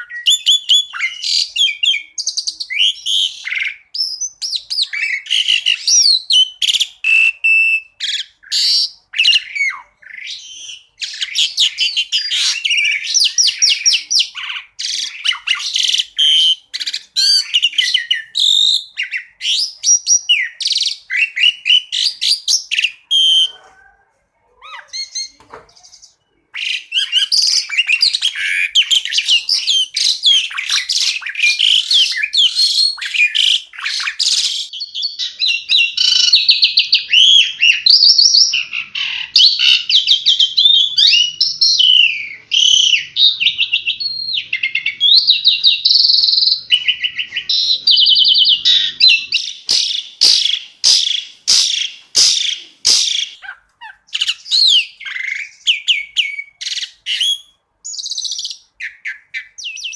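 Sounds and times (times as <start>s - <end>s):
starling singing chirps and trills: 0.0s - 59.9s.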